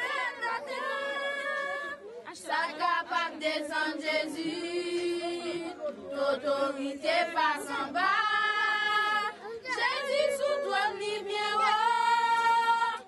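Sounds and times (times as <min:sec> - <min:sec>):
several voices singing together: 0:00.0 - 0:13.0.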